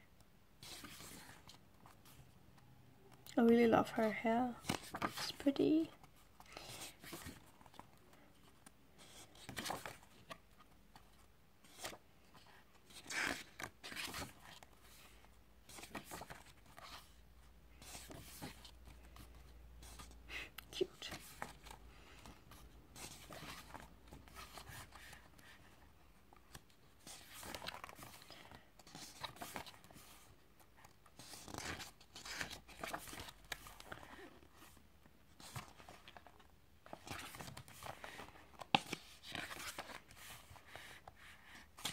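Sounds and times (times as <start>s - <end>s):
pages being turned: 0.6s - 2.2s, 4.6s - 5.4s, 6.4s - 15.1s, 15.7s - 17.2s, 17.8s - 20.1s, 21.1s - 25.7s, 26.5s - 41.9s.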